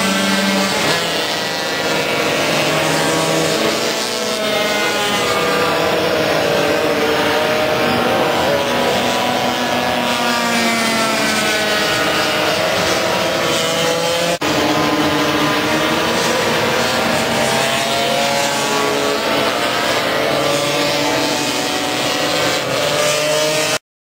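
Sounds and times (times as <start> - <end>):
scooter engines revving: 0.0 - 23.8.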